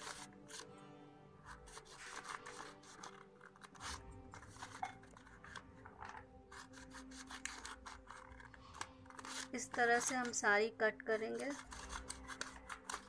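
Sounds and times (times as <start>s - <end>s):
scissors snipping paper: 0.0s - 0.7s, 1.4s - 13.0s.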